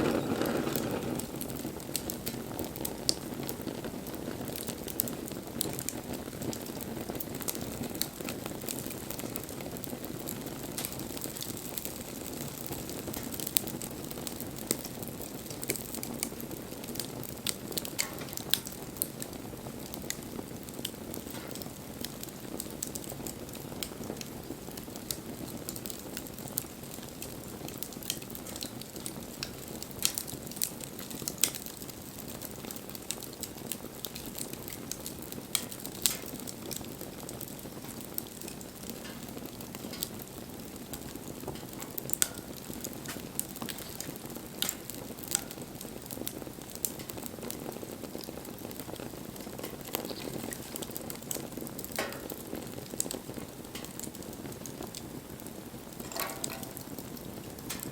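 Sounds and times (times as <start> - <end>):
campfire flame rushing: 0.0 - 57.9
fire crackling and popping: 0.0 - 57.9.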